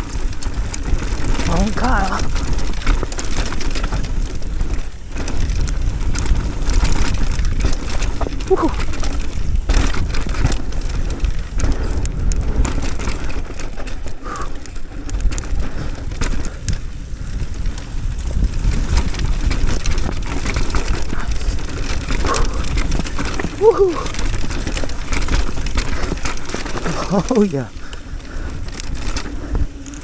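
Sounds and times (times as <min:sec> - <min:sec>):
bike clattering on rocky trail: 0:00.0 - 0:30.0
wind buffeting microphone: 0:00.0 - 0:30.0.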